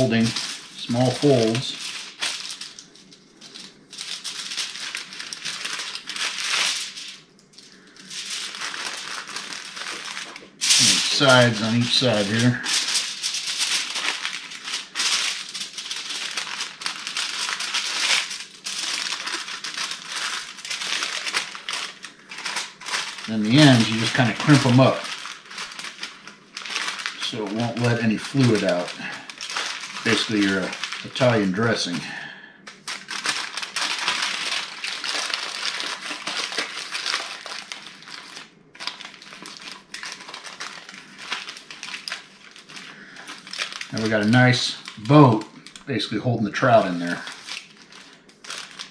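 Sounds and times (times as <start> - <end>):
aluminium foil crinkling: 0.0 - 48.9.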